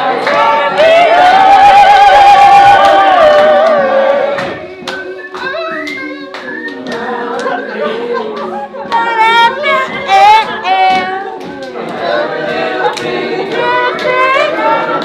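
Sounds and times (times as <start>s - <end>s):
group of voices singing a cappella: 0.0s - 15.0s.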